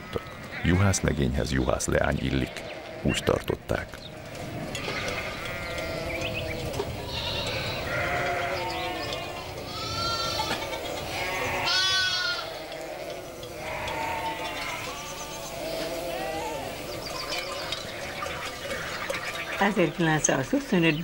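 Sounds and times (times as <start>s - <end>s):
sheep bleating: 0.0s - 19.1s.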